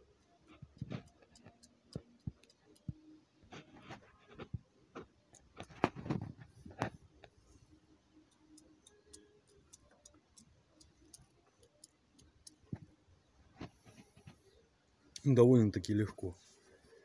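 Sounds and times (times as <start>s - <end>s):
faint small clicks and taps: 0.1s - 7.5s, 8.2s - 15.3s.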